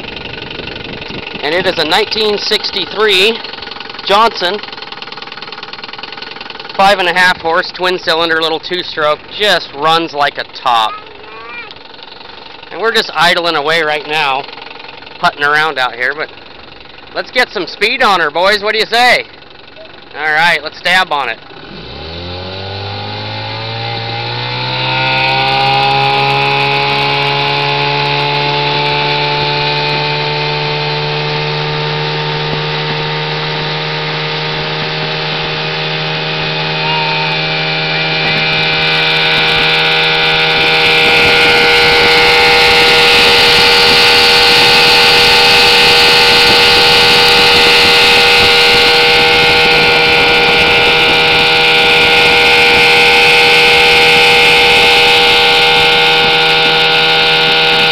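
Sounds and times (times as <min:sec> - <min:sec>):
outboard motor at full throttle: 0:00.0 - 0:57.9.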